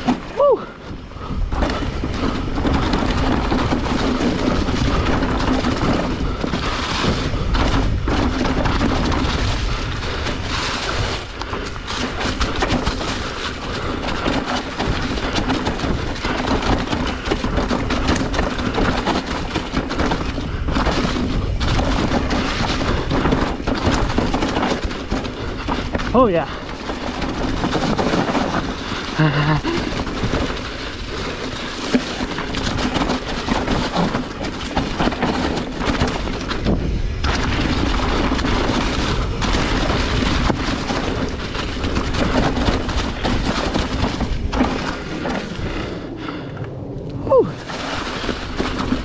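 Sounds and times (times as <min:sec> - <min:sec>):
bike knocking and rattling: 0:00.0 - 0:49.0
tyres rolling over leaves: 0:00.0 - 0:49.0.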